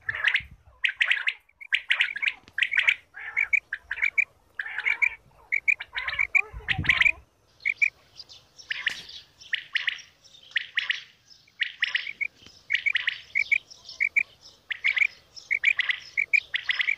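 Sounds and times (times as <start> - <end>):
quail calling: 0.0 - 16.9.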